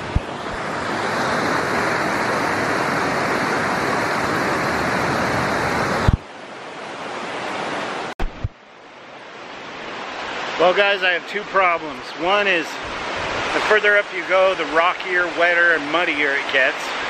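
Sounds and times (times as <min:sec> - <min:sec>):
distant rush of water: 0:00.0 - 0:17.0
stream rushing water: 0:00.0 - 0:17.0.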